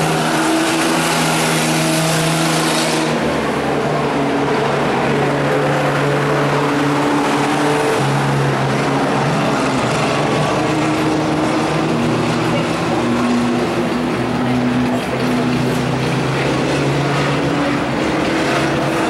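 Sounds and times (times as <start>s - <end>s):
race truck engine running: 0.0s - 19.0s.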